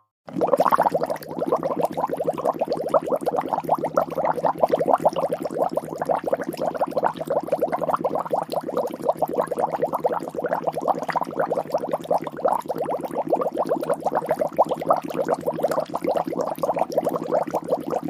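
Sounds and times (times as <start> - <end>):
liquid bubbling: 0.3 - 18.0.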